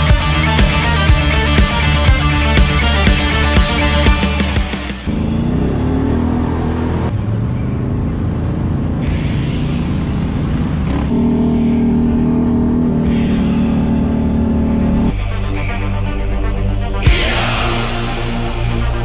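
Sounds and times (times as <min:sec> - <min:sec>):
electronic music with heavy bass: 0:00.0 - 0:05.9, 0:09.0 - 0:19.0.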